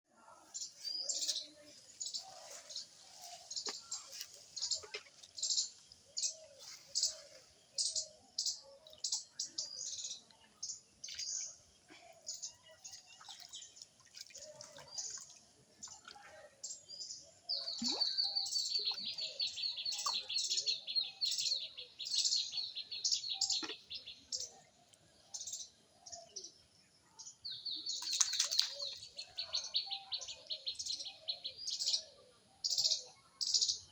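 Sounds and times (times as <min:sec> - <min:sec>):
birds chirping: 0:00.4 - 0:33.9.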